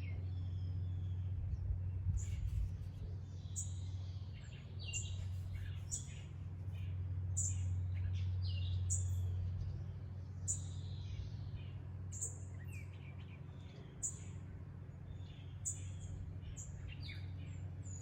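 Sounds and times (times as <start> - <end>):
songbirds chirping: 0.0 - 18.0
steady low hum: 0.0 - 18.0.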